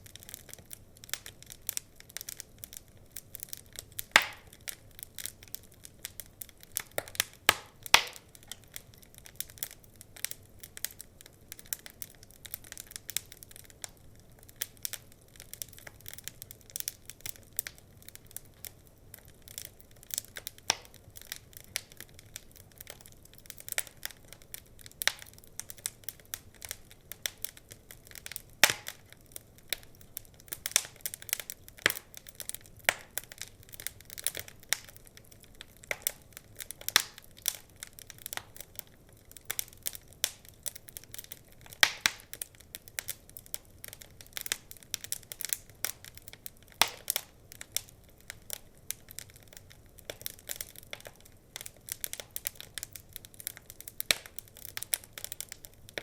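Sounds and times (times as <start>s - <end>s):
faint low hiss: 0.0s - 56.0s
wood fire crackling: 0.0s - 56.0s.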